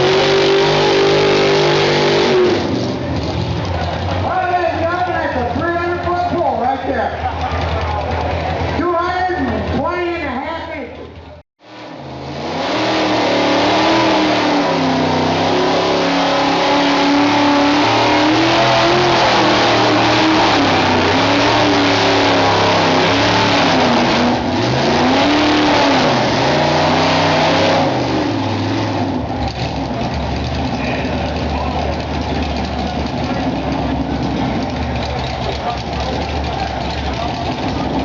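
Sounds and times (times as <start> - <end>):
truck engine revving hard: 0.0 - 9.8, 11.6 - 38.0.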